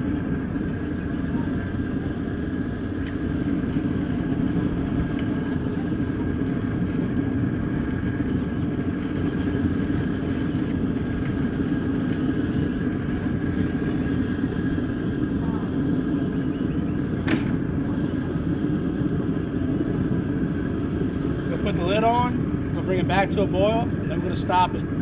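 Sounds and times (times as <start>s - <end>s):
gas burner rushing: 0.0s - 25.0s.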